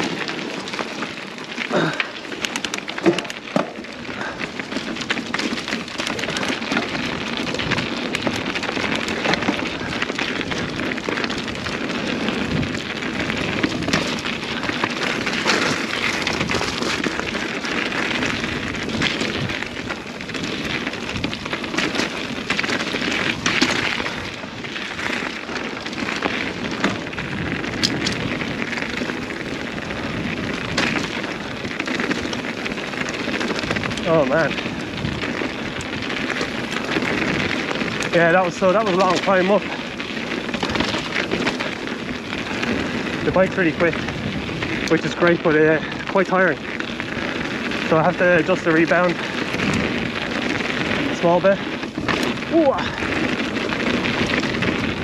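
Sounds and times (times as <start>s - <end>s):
bike tyres on loose gravel: 0.0s - 55.0s
small clicks and rattles: 0.0s - 55.0s.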